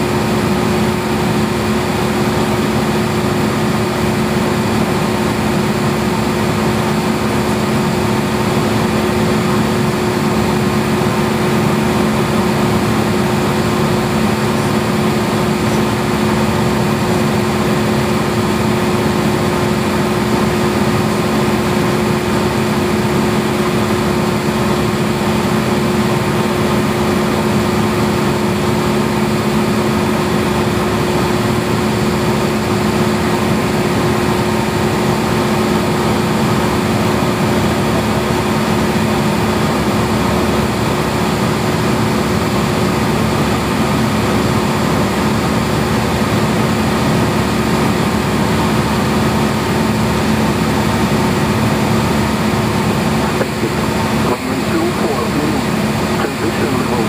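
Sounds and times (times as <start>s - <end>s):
plane engine droning: 0.0s - 57.0s.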